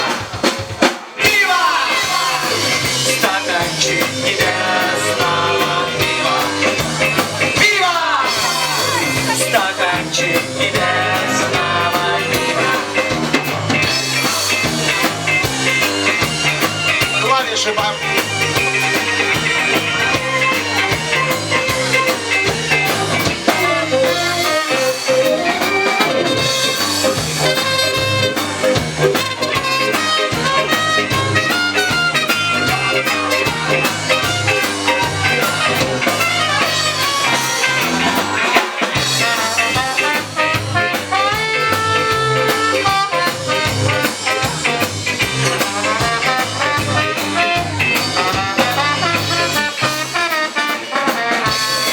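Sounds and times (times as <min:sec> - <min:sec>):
live ska band music: 0:00.0 - 0:51.9.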